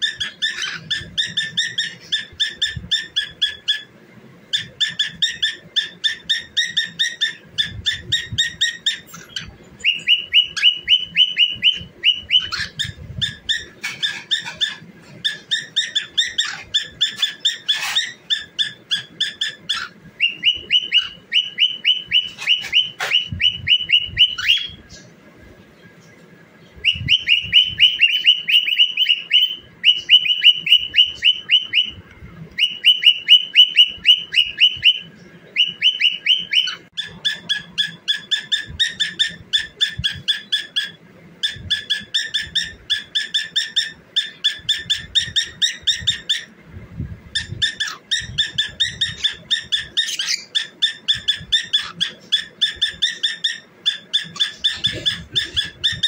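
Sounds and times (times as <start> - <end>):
cockatiel chirping whistles: 4.6 - 24.8, 26.8 - 32.0, 32.6 - 46.5, 47.4 - 56.0.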